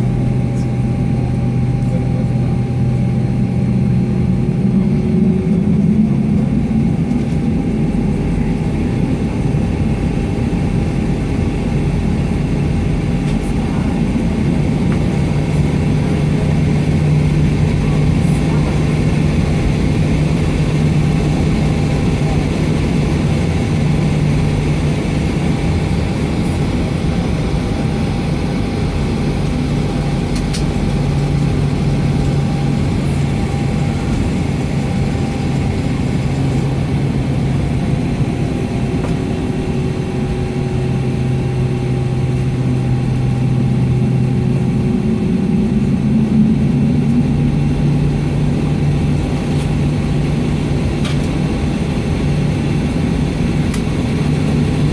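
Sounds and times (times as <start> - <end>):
jet engines idling: 0.0 - 54.9.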